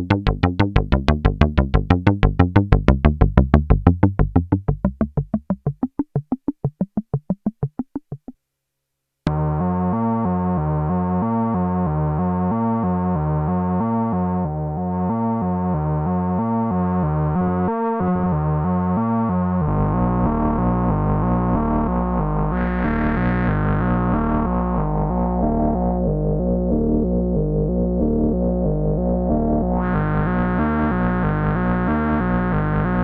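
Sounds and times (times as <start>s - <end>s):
synthesizer sequenced notes: 0.0s - 8.4s, 9.3s - 33.0s.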